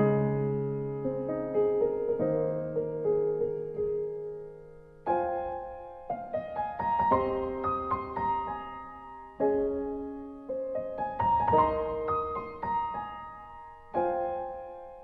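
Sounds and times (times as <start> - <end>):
soft solo piano: 0.0 - 15.0.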